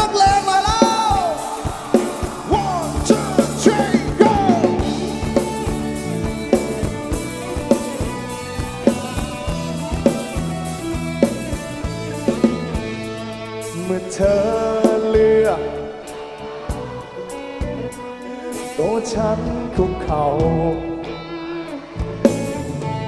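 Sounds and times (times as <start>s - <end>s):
drum kit beat: 0.0s - 18.8s
live band music: 0.0s - 23.0s.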